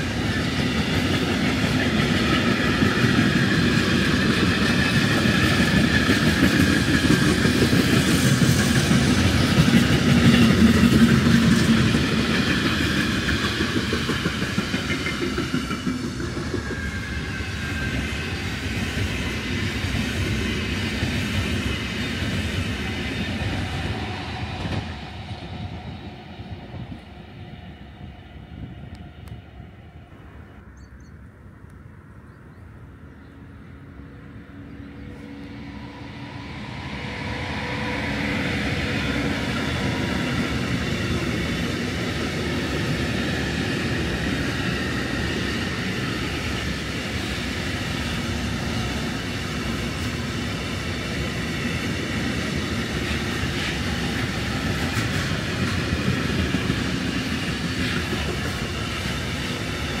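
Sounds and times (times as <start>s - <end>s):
train rumbling on rails: 0.0s - 60.0s.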